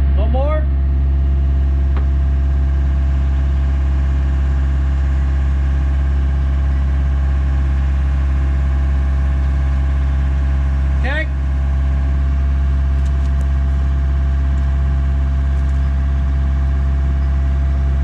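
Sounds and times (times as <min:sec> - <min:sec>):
construction machine engine running: 0:00.0 - 0:18.0.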